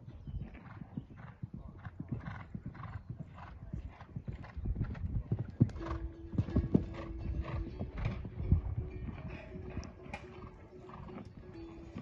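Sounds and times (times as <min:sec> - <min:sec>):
hoofbeats on sand: 0:00.2 - 0:12.0.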